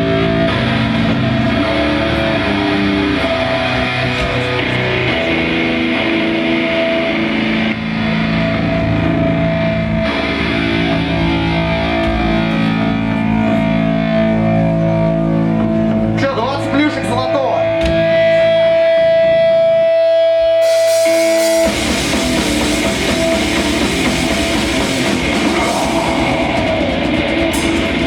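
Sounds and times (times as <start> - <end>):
live rock band playing: 0.0 - 16.2, 20.3 - 28.0
distorted electric guitar chords: 0.0 - 28.0.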